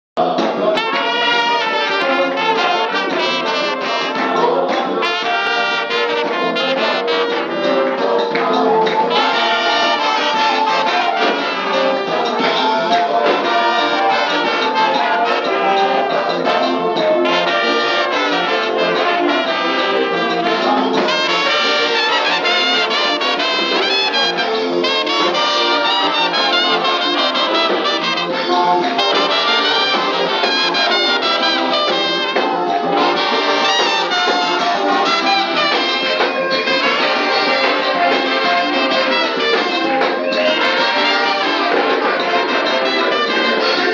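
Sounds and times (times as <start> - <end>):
brass ensemble playing: 0.2 - 43.9.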